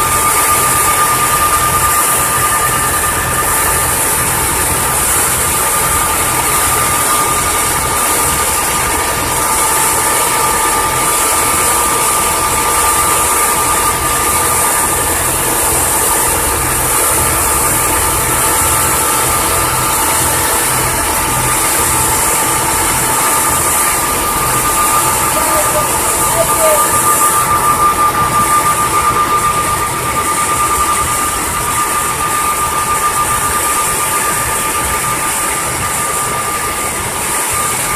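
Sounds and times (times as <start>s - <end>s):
boat engine throbbing: 0.0s - 37.9s.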